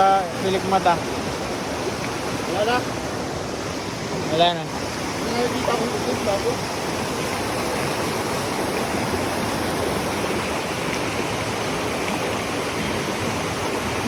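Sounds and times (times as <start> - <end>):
rush of flowing water: 0.0 - 14.0.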